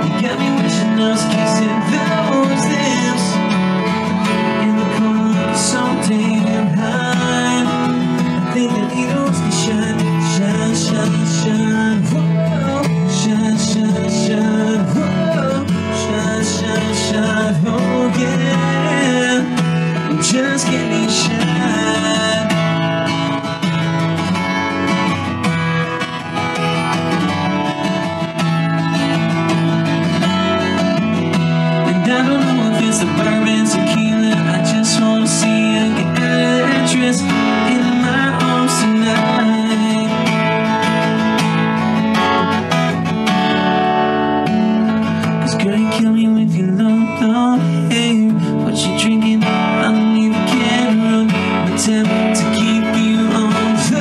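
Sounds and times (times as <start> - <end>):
acoustic guitar country song: 0.0 - 54.0.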